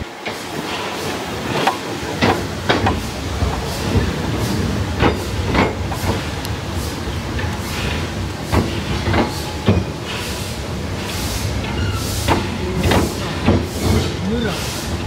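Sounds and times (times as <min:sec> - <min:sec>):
train rumbling along track: 0:00.0 - 0:15.0
wheels clacking over rail joints: 0:00.0 - 0:15.0.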